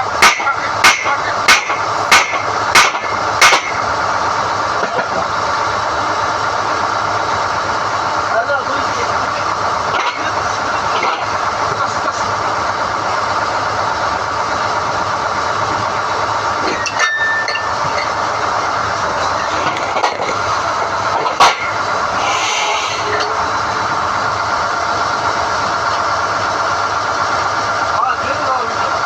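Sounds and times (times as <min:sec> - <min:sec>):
drilling rig running: 0:00.0 - 0:29.0.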